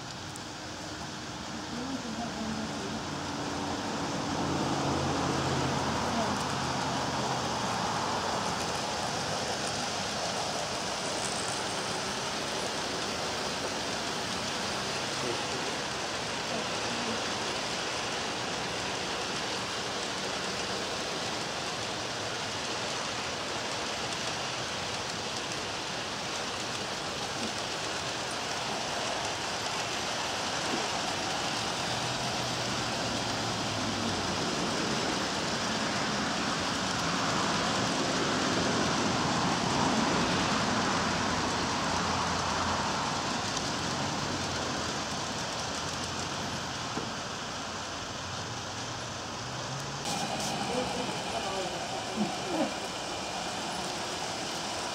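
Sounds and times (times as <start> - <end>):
model train wheels rumbling on rails: 0.0 - 54.9.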